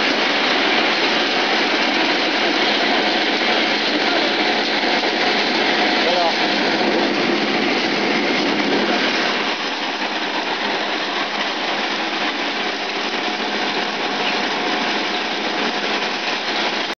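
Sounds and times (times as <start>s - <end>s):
groundnut sheller running: 0.0s - 16.9s.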